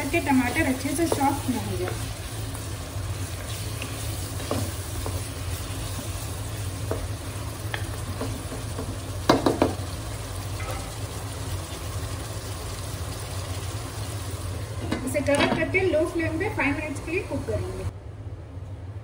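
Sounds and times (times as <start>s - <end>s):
food sizzling in a pot: 0.0s - 17.9s.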